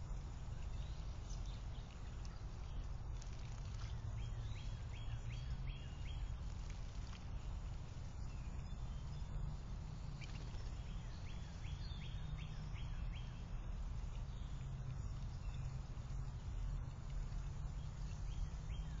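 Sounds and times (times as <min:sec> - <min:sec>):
steady low rumble: 0:00.0 - 0:19.0
bird chirping: 0:00.6 - 0:19.0.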